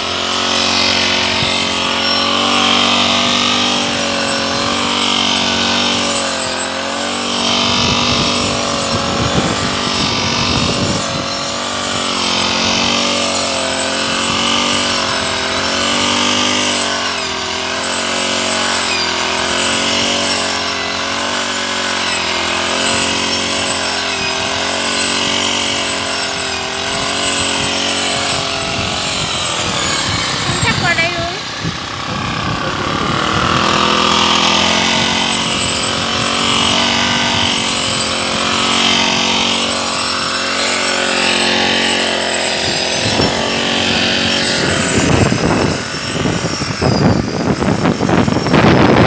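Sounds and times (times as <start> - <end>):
brush cutter cutting grass: 0.0 - 49.0.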